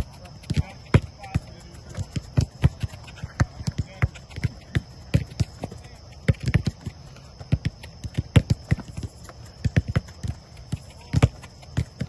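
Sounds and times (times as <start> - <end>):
footsteps: 0.0 - 12.0
soccer ball kicks: 0.0 - 12.0.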